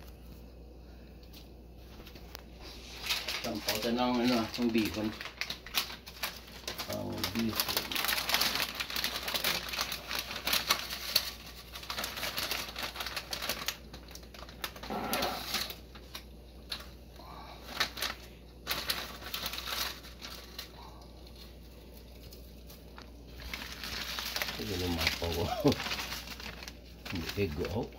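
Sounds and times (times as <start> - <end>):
plastic bag crinkling: 1.9 - 27.9.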